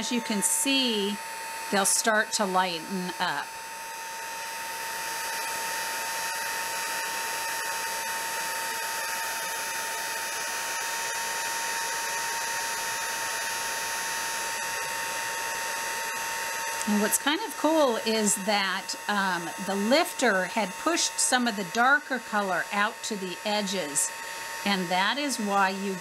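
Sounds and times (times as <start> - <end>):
heat tool blowing hot air: 0.0 - 26.0.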